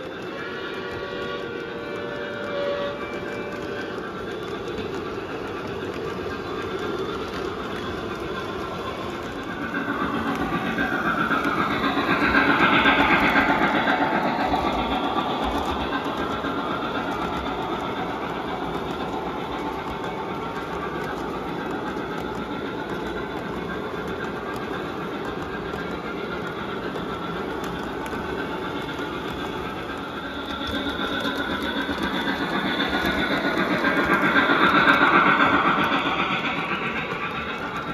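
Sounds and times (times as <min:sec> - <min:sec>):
model train rumble and clatter: 0:00.0 - 0:37.9.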